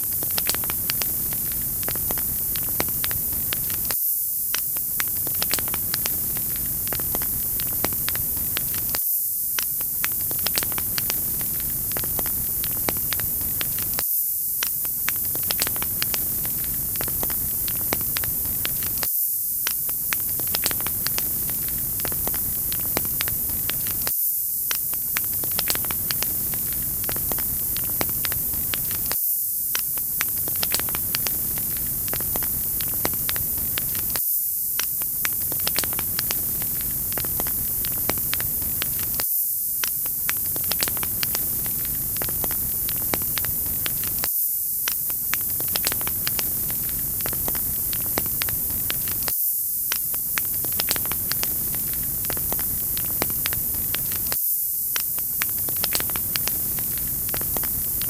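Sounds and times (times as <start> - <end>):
wood fire crackling: 0.0 - 9.0, 9.6 - 14.0, 14.6 - 24.1, 24.7 - 29.2, 30.0 - 34.2, 35.0 - 39.2, 39.8 - 44.3, 44.9 - 49.3, 50.0 - 54.4, 55.0 - 58.0.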